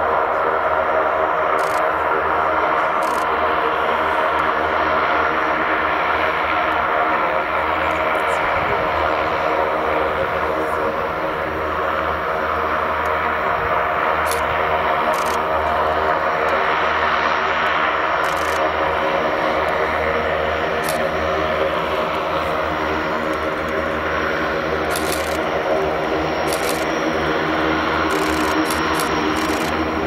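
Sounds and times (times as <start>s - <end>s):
turboprop engines running: 0.0s - 30.0s.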